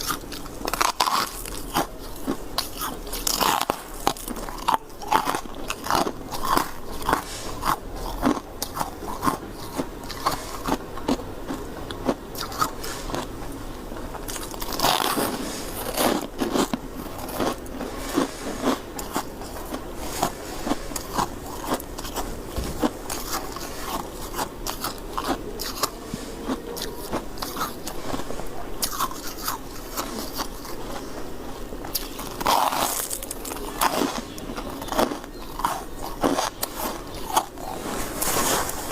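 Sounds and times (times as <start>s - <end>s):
person crunching shaved ice: 0.0s - 38.9s.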